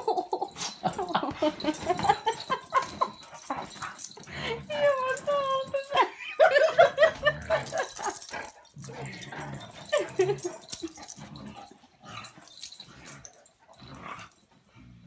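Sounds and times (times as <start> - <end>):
dogs yipping and whining: 0.0 - 14.5.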